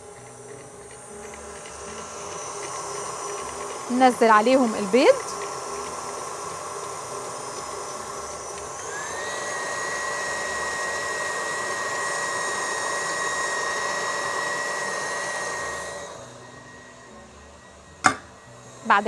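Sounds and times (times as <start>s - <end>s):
stand mixer motor whine: 0.0s - 19.0s.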